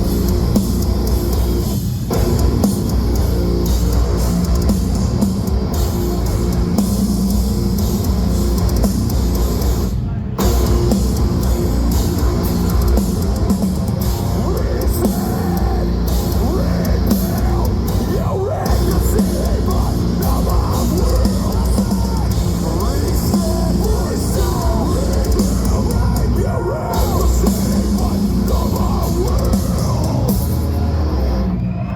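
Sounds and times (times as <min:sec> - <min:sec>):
drum kit: 0:00.0 - 0:31.6
distorted guitars: 0:00.0 - 0:31.9.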